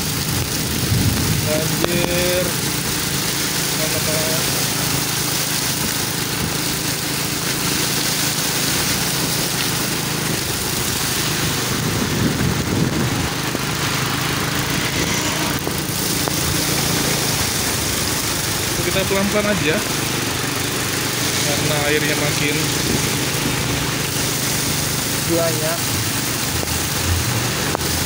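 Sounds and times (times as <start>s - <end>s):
heavy rain hiss: 0.0s - 28.0s
scooter engine running: 0.0s - 28.0s
tyres splashing through water: 0.0s - 28.0s.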